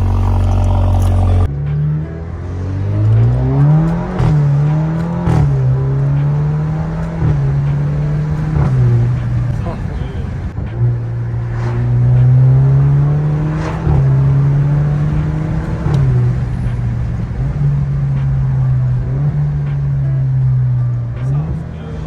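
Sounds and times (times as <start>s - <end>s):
car engine accelerating through gears: 0.0s - 22.0s.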